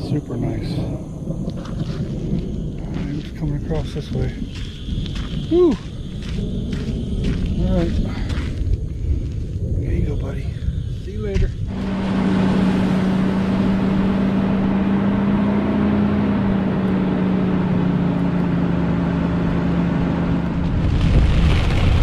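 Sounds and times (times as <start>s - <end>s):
car engine hum: 0.0s - 21.7s.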